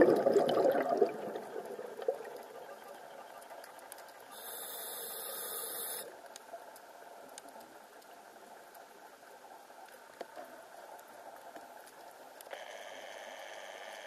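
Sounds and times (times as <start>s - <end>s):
faint steady hiss: 0.0s - 14.0s
small underwater clicks and crackles: 0.0s - 14.0s.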